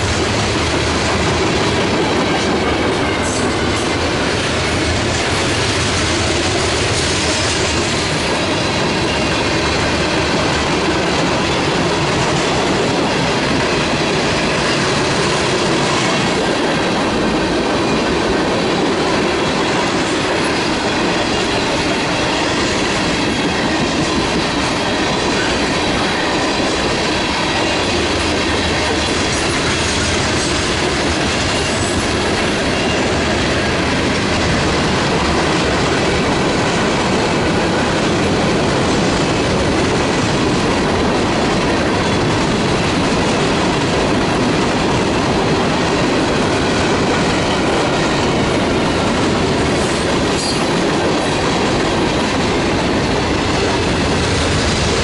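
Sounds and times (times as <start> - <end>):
freight train cars rolling past: 0.0 - 55.0.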